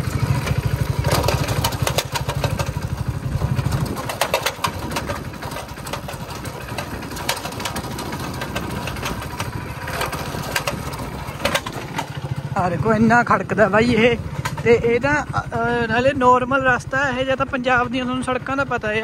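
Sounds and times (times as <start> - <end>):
motorcycle body rattling: 0.0 - 19.0
motorcycle engine running: 0.0 - 19.0.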